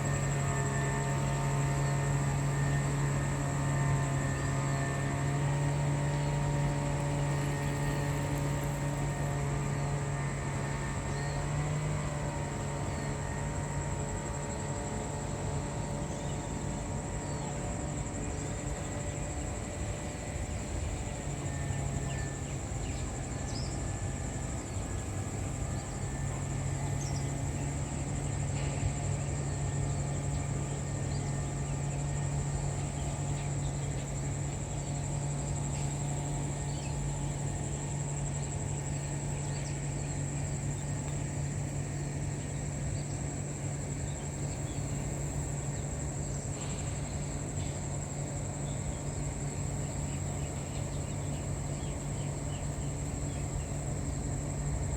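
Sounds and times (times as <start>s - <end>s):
boat engine humming: 0.0s - 54.9s
high-pitched insect drone: 0.0s - 54.9s.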